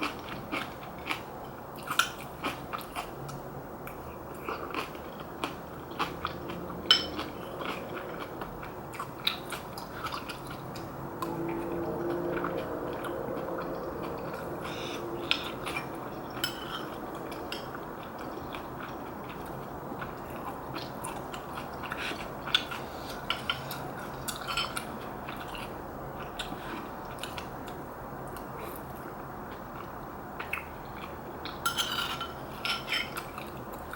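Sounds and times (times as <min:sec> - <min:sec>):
chewing: 0:00.0 - 0:31.6, 0:32.6 - 0:33.9.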